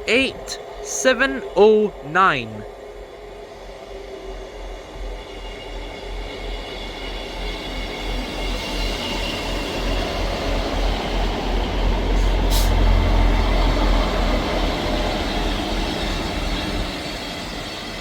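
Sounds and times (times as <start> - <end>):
diesel train rumbling: 0.0 - 17.9.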